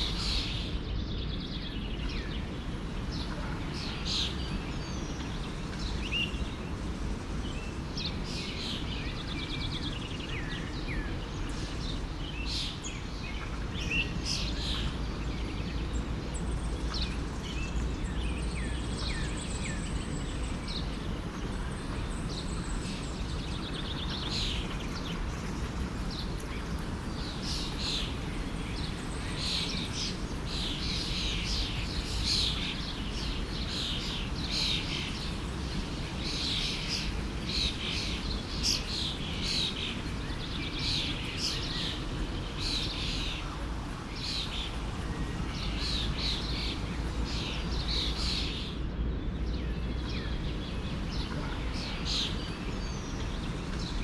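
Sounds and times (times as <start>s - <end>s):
small birds chirping: 0.0s - 54.0s
flowing stream: 1.9s - 54.0s.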